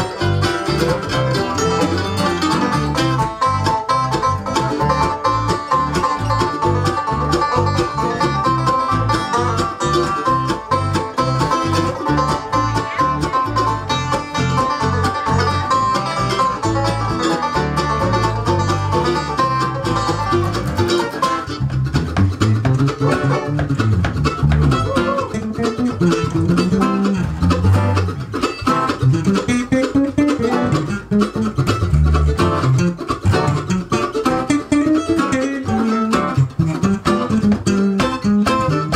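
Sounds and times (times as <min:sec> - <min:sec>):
acoustic guitar: 0:00.0 - 0:38.9
banjo picking: 0:00.0 - 0:38.9
bass line: 0:00.0 - 0:38.9
mandolin picking: 0:00.0 - 0:38.9.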